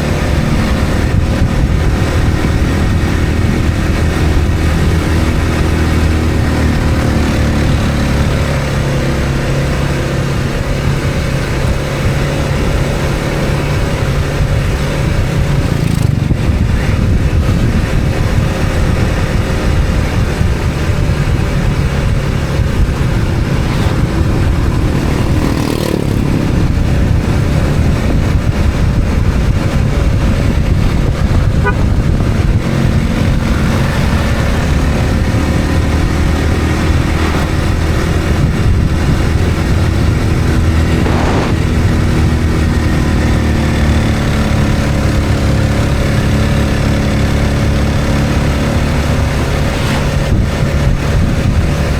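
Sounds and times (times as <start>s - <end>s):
road and wind noise: 0.0s - 51.9s
vehicle engine running: 0.0s - 51.9s.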